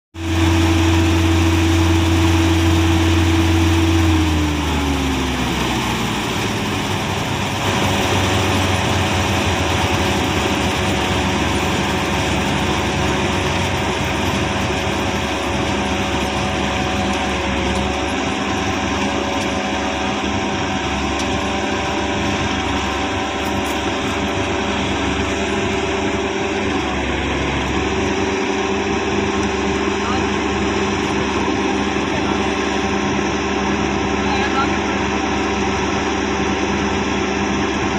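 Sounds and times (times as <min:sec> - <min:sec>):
combine harvester machinery drone: 0:00.2 - 0:37.9.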